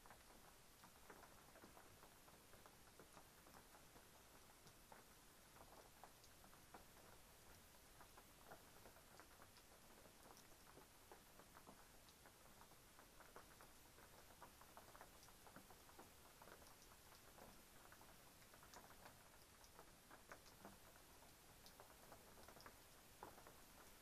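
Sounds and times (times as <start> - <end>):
light rain pattering and dripping: 0.0 - 24.0.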